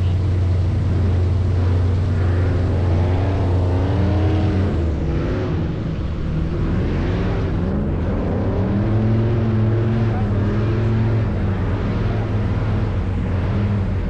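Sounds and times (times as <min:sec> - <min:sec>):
airboat engine and propeller: 0:00.0 - 0:14.0.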